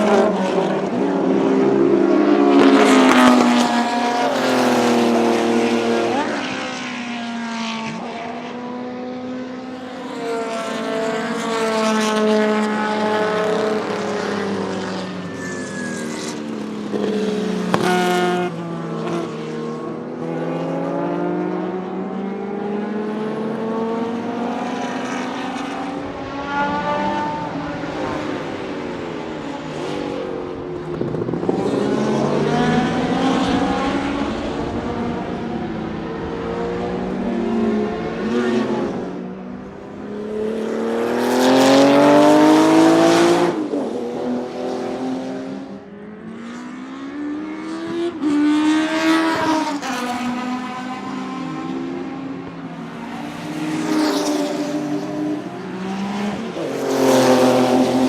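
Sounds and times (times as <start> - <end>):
race car engine passing: 0.0 - 58.0.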